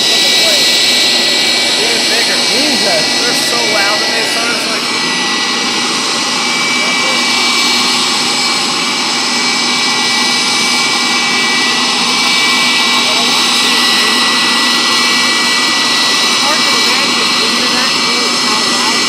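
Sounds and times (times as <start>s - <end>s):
high-pitched engine whine: 0.0s - 19.0s
jet engine roar: 0.0s - 19.0s.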